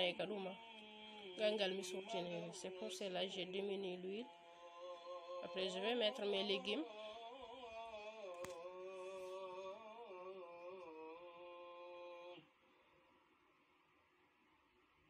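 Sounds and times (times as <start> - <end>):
distant call to prayer: 0.0 - 12.4.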